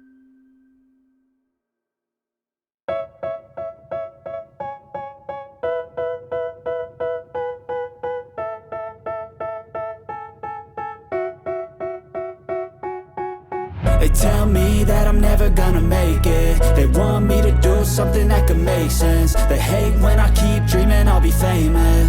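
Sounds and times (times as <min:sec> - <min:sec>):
keyboard playing repeated chords: 0:02.9 - 0:22.0.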